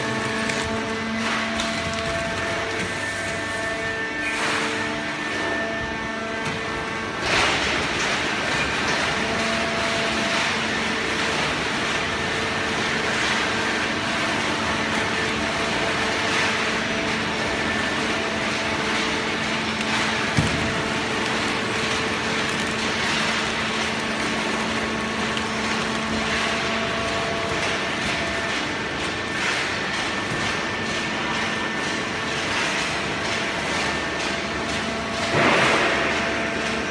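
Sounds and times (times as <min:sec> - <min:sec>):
hydraulic pump humming: 0:00.0 - 0:36.9.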